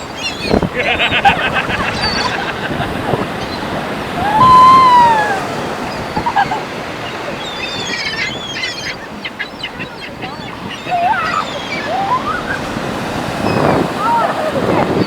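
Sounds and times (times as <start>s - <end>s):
loud long bird call: 0.0s - 14.5s
surf washing on beach: 0.0s - 15.0s.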